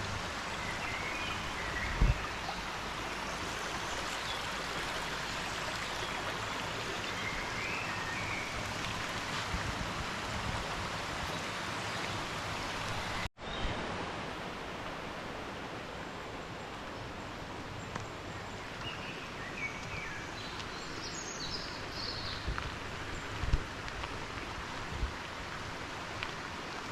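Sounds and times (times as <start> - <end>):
stream rushing: 0.0 - 26.9.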